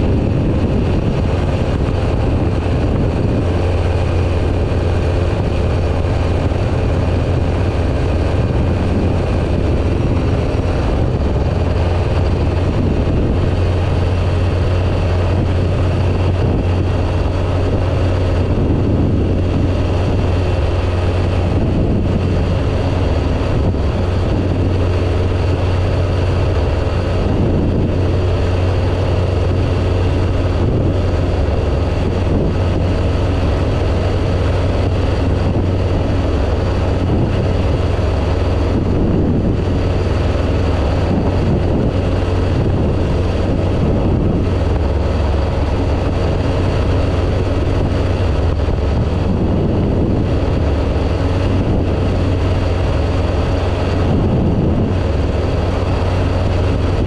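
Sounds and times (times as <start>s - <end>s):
ultralight aircraft engine droning: 0.0s - 57.0s
wind rush: 0.0s - 57.0s.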